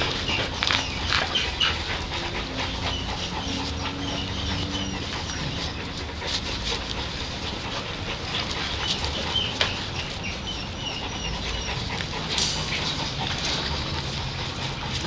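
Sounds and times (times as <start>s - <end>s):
puppies squeaking and whimpering: 0.0s - 15.0s
steady noisy background: 0.0s - 15.0s.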